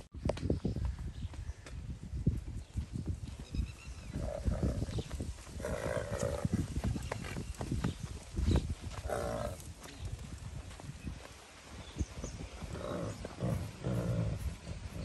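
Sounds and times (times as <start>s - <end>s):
hooves thudding on dirt: 0.0s - 15.0s.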